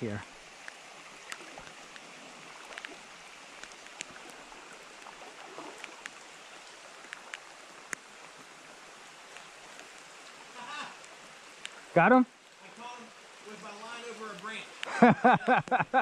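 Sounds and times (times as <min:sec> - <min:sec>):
falling rain: 0:00.0 - 0:16.0
rocky creek rushing: 0:00.0 - 0:16.0.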